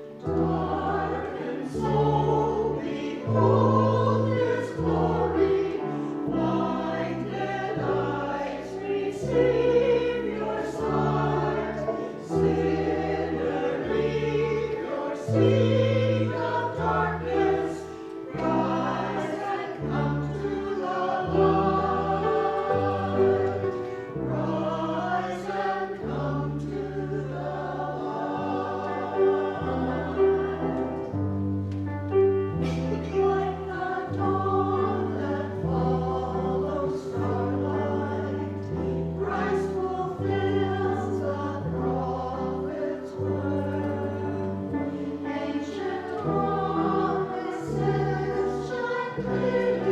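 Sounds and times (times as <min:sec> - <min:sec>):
voices singing a hymn: 0:00.0 - 0:49.9.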